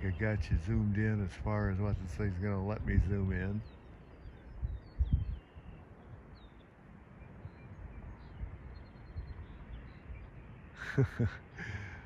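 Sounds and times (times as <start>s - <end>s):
faint bird chirps: 0.0s - 12.0s
wind gusts on microphone: 0.0s - 12.0s.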